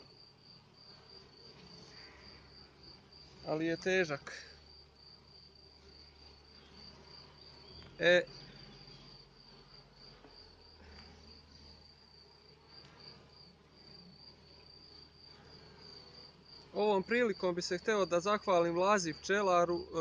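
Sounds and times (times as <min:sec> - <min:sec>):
crickets chirping: 0:00.0 - 0:20.0
honey bees humming: 0:00.0 - 0:20.0.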